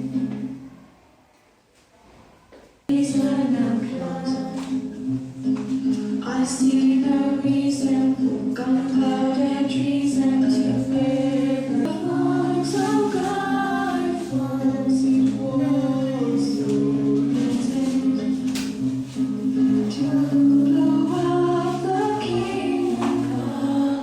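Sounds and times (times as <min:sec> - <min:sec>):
voices singing together: 0:02.9 - 0:05.2, 0:06.2 - 0:24.0.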